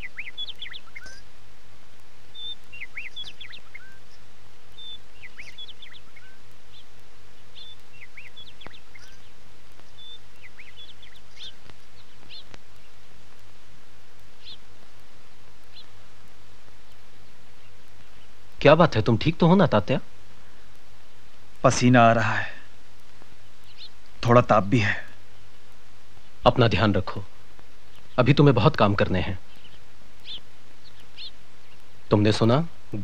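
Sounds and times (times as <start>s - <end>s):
small birds chirping: 0.0s - 33.0s
steady low hum: 0.0s - 33.0s.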